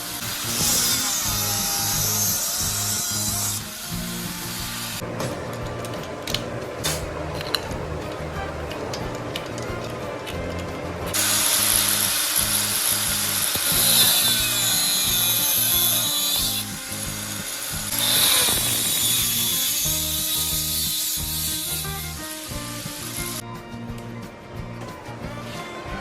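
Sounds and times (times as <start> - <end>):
angle grinder cutting steel: 0.0 - 8.9, 11.1 - 23.4
background music: 0.0 - 26.0.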